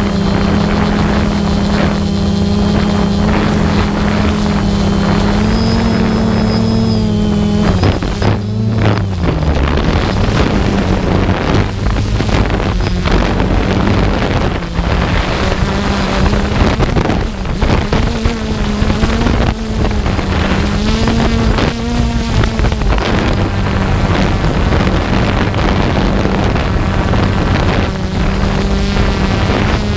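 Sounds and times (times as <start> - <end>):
small aircraft engine and propeller: 0.0 - 29.9
wind over microphone: 0.0 - 29.9.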